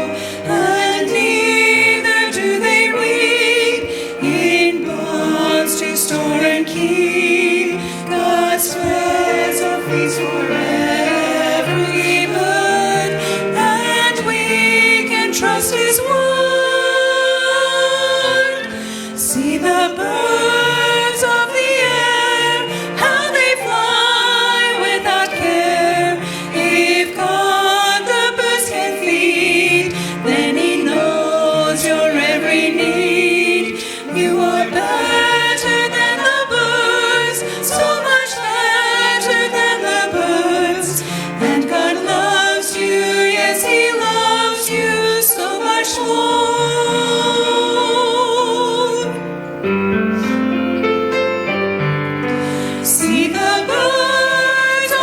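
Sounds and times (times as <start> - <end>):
women singing with vibrato: 0.0 - 49.5, 52.4 - 55.0
piano accompaniment: 0.0 - 55.0.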